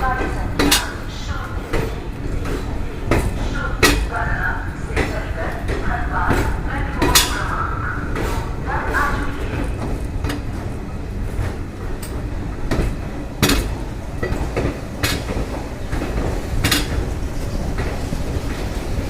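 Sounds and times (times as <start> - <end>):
train carriages rumbling: 0.0 - 19.0.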